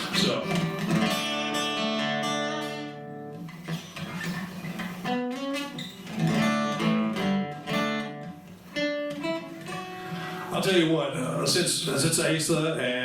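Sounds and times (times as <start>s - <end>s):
acoustic guitar picking: 0.0s - 12.1s.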